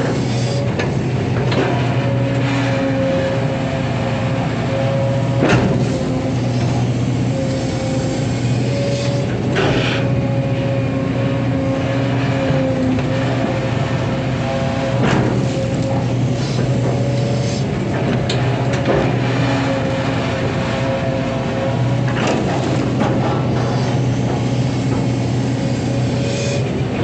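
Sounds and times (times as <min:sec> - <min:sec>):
excavator engine drone: 0:00.0 - 0:27.0.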